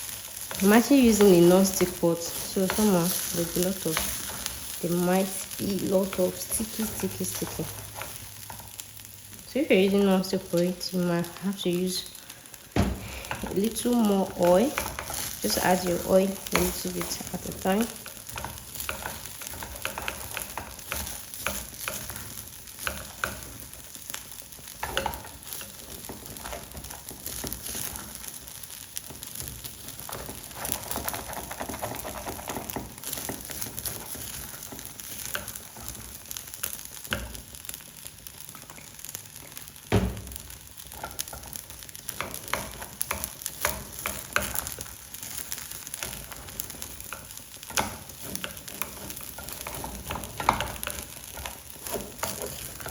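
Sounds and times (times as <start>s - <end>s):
spoon stirring and scraping: 0.0s - 9.1s, 13.0s - 39.7s, 40.4s - 52.9s
rice sizzling in oil: 0.0s - 52.9s.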